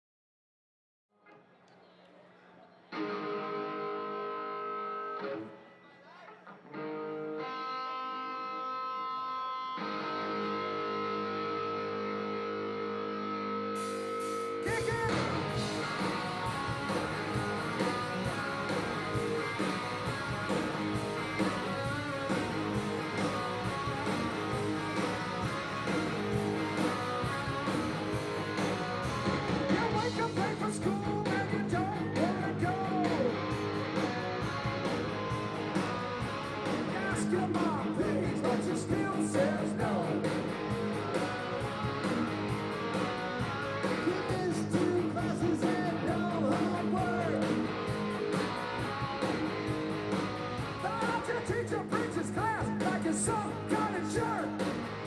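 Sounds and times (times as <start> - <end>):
live rock band playing: 2.9 - 5.7, 6.4 - 55.0.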